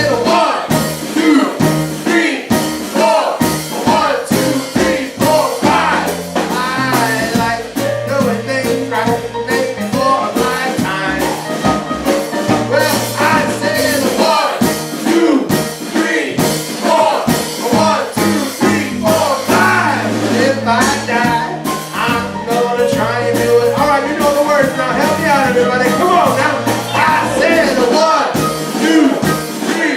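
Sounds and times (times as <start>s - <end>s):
person singing: 0.0s - 11.5s, 12.6s - 29.9s
bass line: 0.0s - 15.8s, 17.3s - 29.5s
live band playing bluesy jazz: 0.0s - 29.9s.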